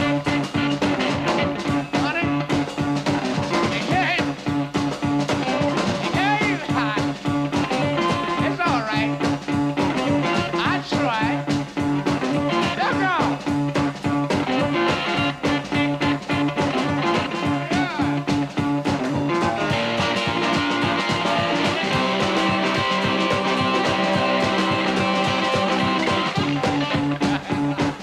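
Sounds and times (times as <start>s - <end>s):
drums keeping a steady beat: 0.0s - 28.0s
electric guitar bent notes: 0.0s - 28.0s
repeating bass line: 0.0s - 28.0s.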